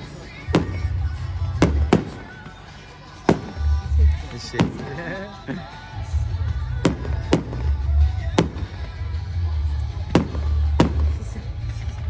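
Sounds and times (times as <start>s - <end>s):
fireworks bangs: 0.0s - 5.3s, 6.7s - 12.0s.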